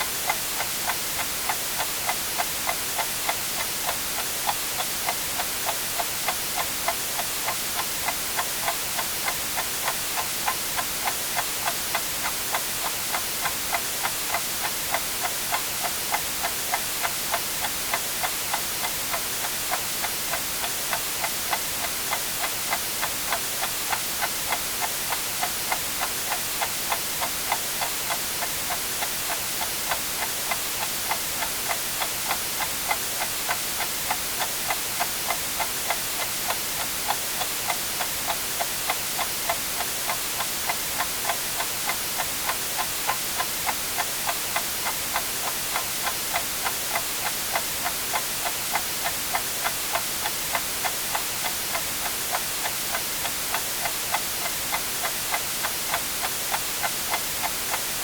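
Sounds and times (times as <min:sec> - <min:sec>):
white noise hiss: 0:00.0 - 0:58.0
clock ticking: 0:00.2 - 0:58.0.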